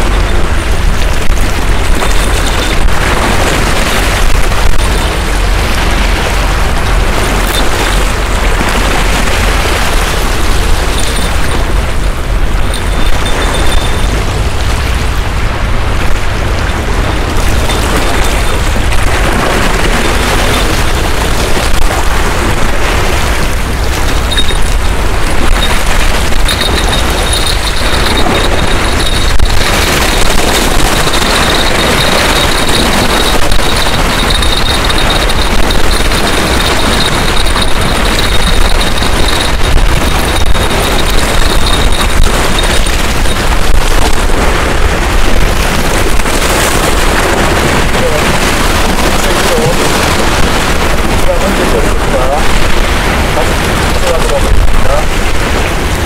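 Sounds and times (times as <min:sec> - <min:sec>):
waves washing against rocks: 0:00.0 - 0:56.0
wind buffeting microphone: 0:00.0 - 0:56.0.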